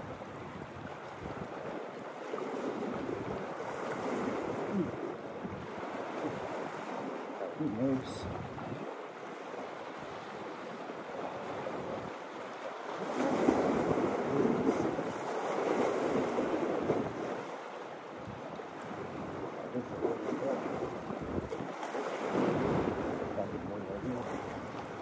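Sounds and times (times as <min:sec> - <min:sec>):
small waves washing on shore: 0:00.0 - 0:25.0
wind buffeting microphone: 0:00.0 - 0:25.0.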